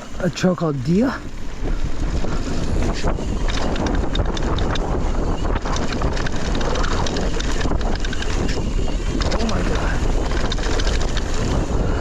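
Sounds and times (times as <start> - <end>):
bike rattling over bumps: 0.0 - 12.0
bike tyres rolling on dirt: 0.0 - 12.0
wind buffeting microphone: 0.0 - 12.0.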